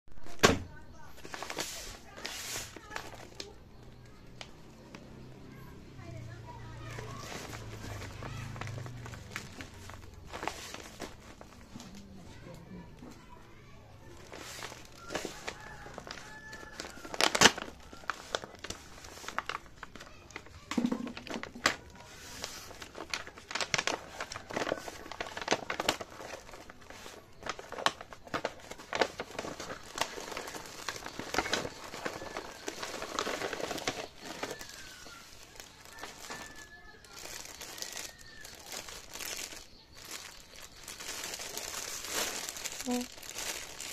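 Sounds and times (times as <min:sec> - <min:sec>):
loud paper crackle: 0:00.1 - 0:12.5, 0:13.2 - 0:43.9
plastic bag crinkling: 0:00.2 - 0:43.9
paper envelope tearing and crinkling: 0:01.2 - 0:03.6, 0:06.8 - 0:11.7, 0:14.0 - 0:43.9.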